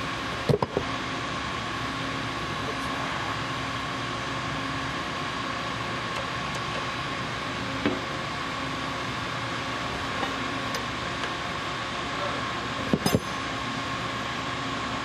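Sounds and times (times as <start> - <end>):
workshop machinery hum and hiss: 0.0 - 15.0.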